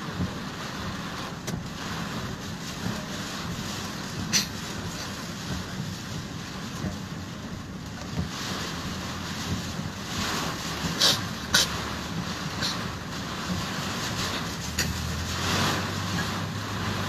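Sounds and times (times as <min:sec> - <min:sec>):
heavy rain and water: 0:00.0 - 0:17.0
vehicle engine running: 0:00.0 - 0:17.0.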